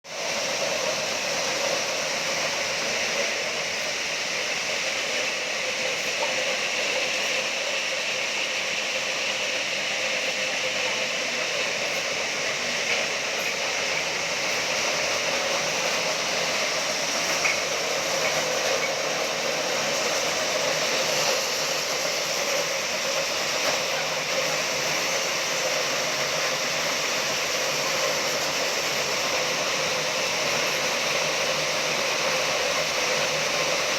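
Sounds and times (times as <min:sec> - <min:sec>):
hissing machinery noise: 0:00.0 - 0:33.9.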